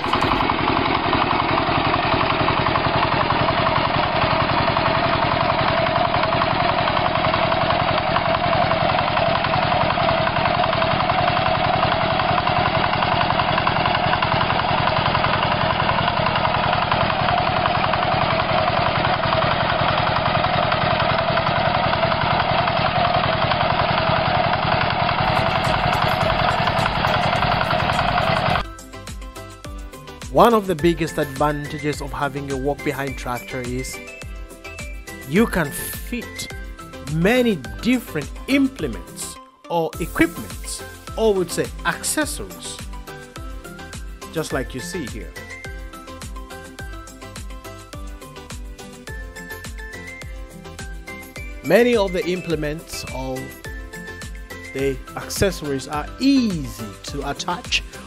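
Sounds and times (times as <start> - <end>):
tractor engine chugging: 0.0 - 39.3, 40.0 - 58.0.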